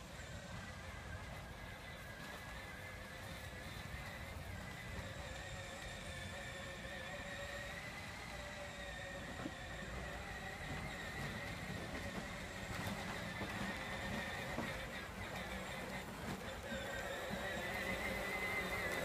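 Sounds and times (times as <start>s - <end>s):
toy electric motor whine: 0.0s - 19.0s.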